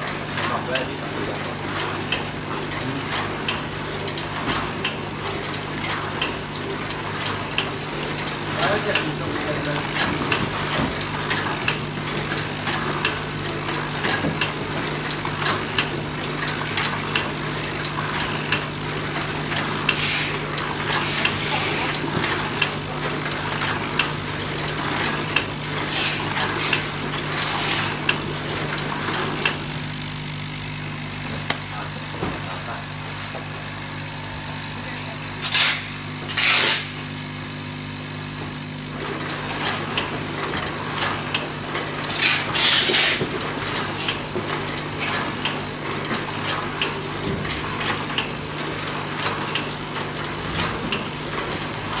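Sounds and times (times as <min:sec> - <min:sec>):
packaging machine humming and clicking: 0:00.0 - 0:52.0.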